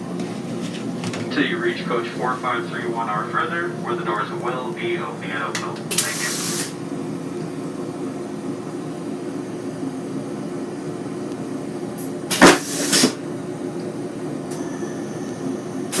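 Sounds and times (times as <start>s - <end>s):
steady hum in train washroom: 0.0s - 16.0s.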